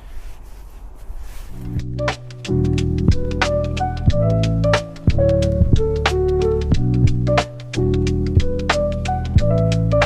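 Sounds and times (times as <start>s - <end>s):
sustained keyboard notes: 1.6s - 10.0s
steady drum beat: 1.7s - 10.0s.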